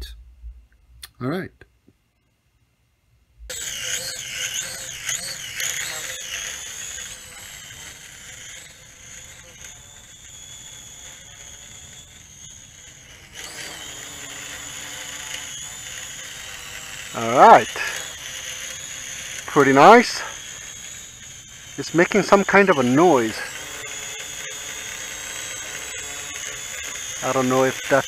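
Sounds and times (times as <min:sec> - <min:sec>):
quadcopter propellers whining: 0:03.5 - 0:28.0.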